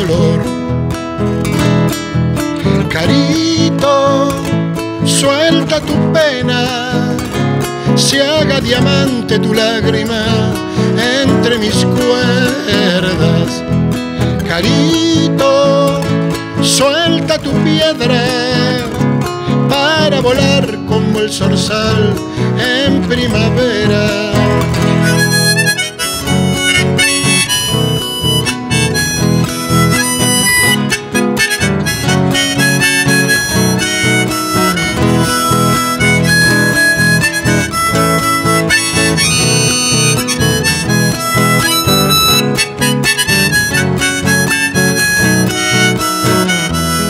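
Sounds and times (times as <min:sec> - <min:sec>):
harmonica melody: 0:00.0 - 0:47.0
person singing folk song: 0:00.0 - 0:47.0
strummed acoustic guitar: 0:00.0 - 0:47.0.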